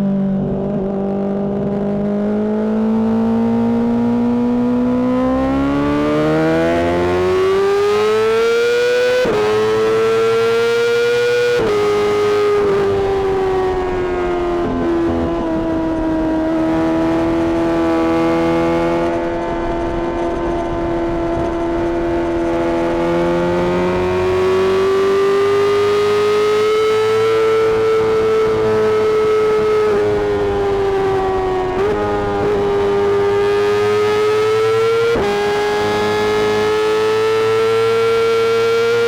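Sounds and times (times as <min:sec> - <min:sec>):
motorcycle engine at high revs: 0:00.0 - 0:39.0.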